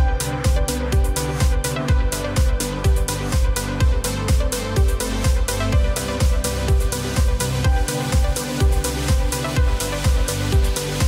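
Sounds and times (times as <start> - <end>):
hi-hat strokes: 0.0 - 11.0
kick drum: 0.0 - 11.0.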